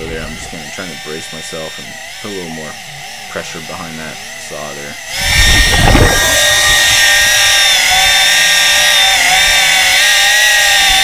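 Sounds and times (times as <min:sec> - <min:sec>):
hydraulic chainsaw cutting underwater: 0:00.0 - 0:11.0.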